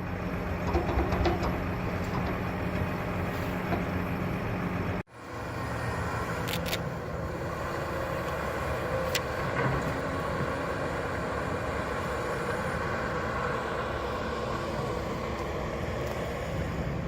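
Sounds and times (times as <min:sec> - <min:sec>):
heavy construction machinery running: 0:00.0 - 0:17.0.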